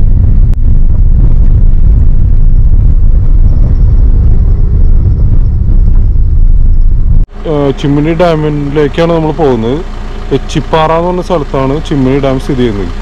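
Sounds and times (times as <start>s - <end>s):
vehicle rumbling on gravel road: 0.0s - 13.0s.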